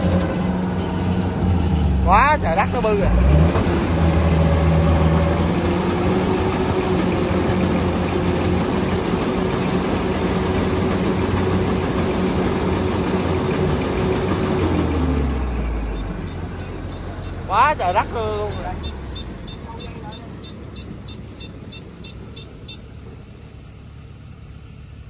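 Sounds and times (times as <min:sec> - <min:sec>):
diesel engine running hard: 0:00.0 - 0:25.0.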